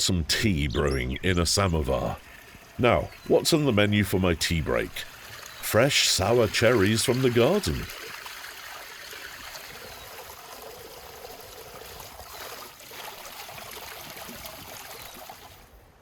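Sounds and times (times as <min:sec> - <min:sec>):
water pouring: 0:01.8 - 0:15.7.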